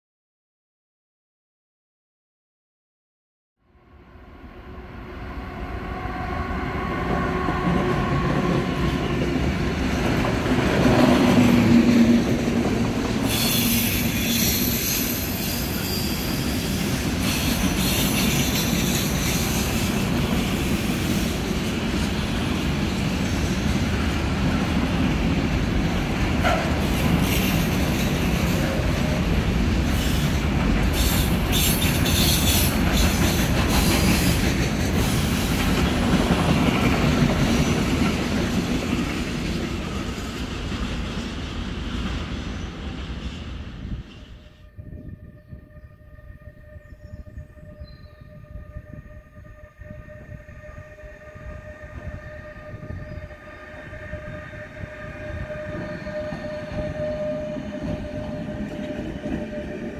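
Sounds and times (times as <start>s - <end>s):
freight train wheels rumbling: 5.2s - 59.9s.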